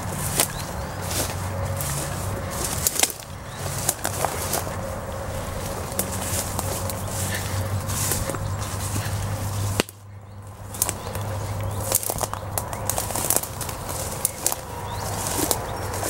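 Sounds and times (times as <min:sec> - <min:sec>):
leaves rustling and swishing: 0:00.0 - 0:16.0
low steady hum: 0:00.0 - 0:16.0
twigs snapping and crackling: 0:00.0 - 0:16.0.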